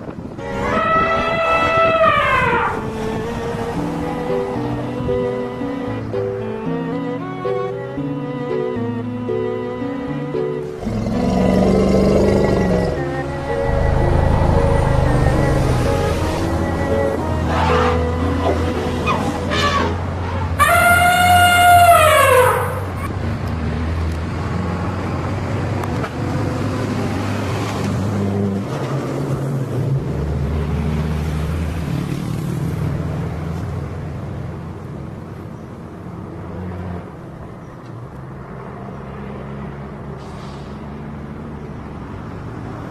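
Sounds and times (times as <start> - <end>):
traffic noise: 0.0 - 42.9
vehicle engines running: 0.0 - 42.9.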